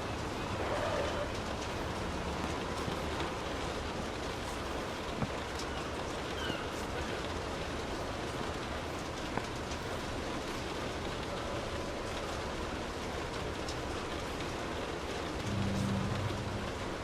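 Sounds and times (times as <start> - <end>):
sharp rain drop ticks: 0.0 - 17.0
steady rain on a street: 0.0 - 17.0.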